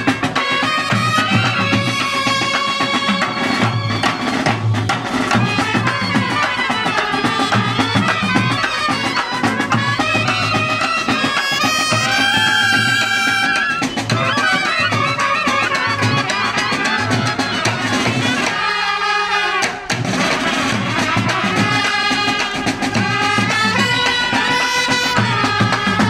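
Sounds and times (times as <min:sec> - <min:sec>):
steady drum beat: 0:00.0 - 0:18.9, 0:19.5 - 0:26.0
reedy wind instruments melody: 0:00.0 - 0:26.0.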